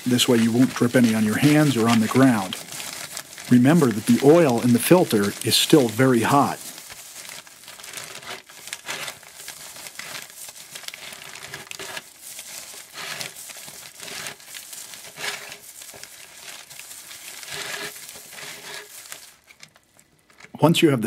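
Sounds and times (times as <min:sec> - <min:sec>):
plastic bag crinkling: 0:00.0 - 0:20.6.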